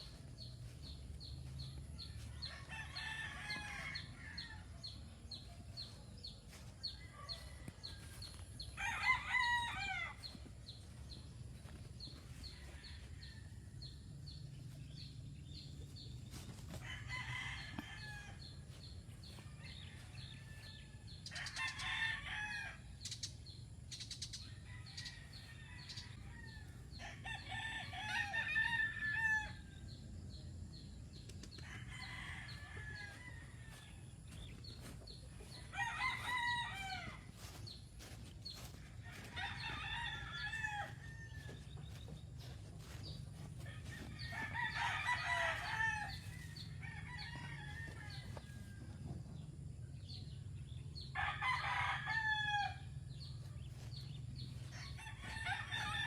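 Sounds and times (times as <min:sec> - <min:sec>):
roosters crowing: 0:00.0 - 0:56.0.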